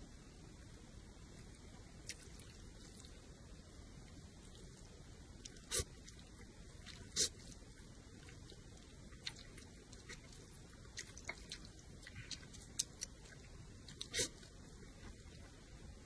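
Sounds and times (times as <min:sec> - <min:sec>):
wet chewing and mouth clicks: 0:02.0 - 0:03.3, 0:04.1 - 0:15.7.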